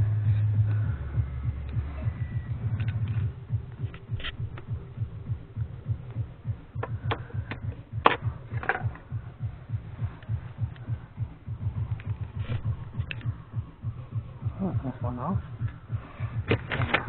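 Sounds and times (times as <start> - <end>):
low pulsing hum: 0.0 - 17.0.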